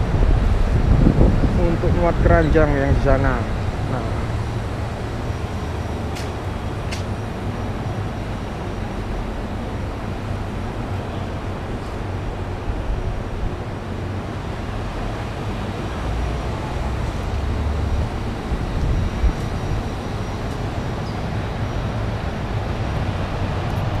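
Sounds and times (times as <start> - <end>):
diesel truck engine idling: 2.2 - 22.6.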